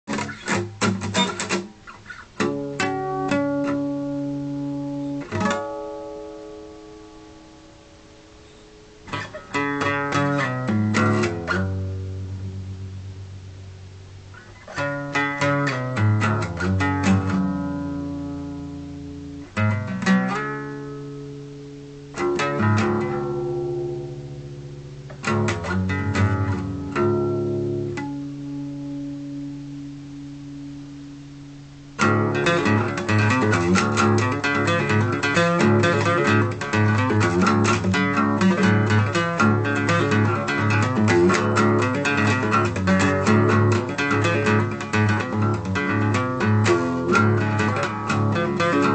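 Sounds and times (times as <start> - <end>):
acoustic guitar playing blues: 0.1 - 48.9.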